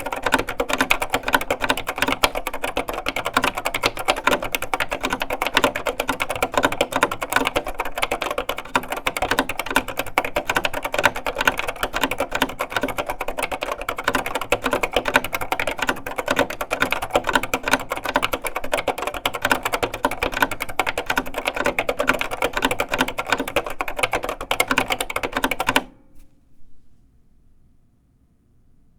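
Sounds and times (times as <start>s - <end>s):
fast typing on keyboard: 0.0s - 25.9s.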